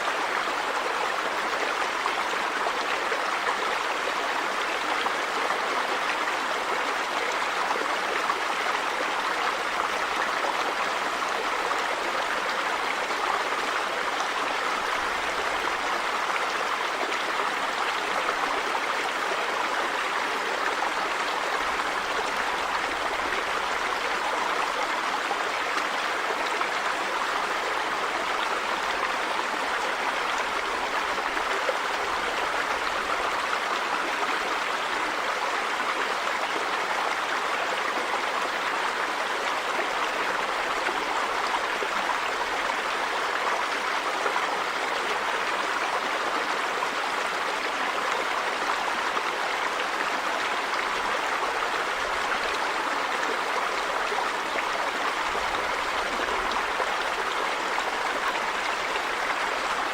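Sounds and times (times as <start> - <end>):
river water over rocks: 0.0 - 59.9.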